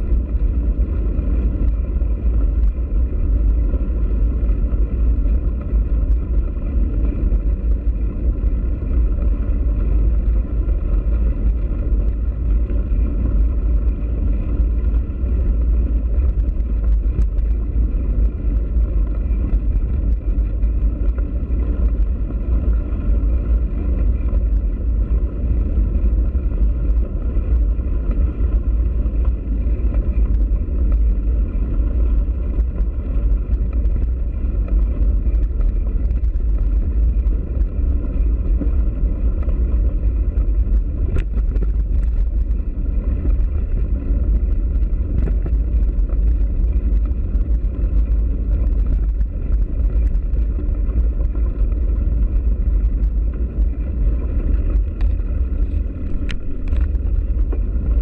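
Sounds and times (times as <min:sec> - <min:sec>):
bicycle tyres rolling over gravel: 0:00.0 - 0:58.0
wind buffeting microphone: 0:00.0 - 0:58.0.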